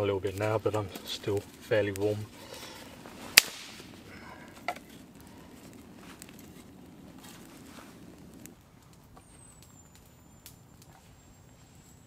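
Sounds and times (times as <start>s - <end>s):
campfire crackling: 0.0s - 12.0s
low rustle: 0.2s - 12.0s.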